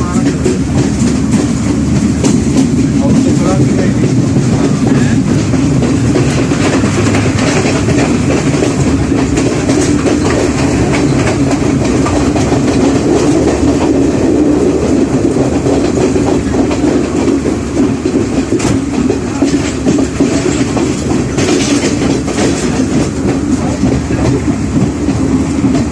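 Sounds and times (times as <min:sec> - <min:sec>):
clickety-clack of rail joints: 0:00.0 - 0:25.9
train wheels rumbling on rails: 0:00.0 - 0:25.9.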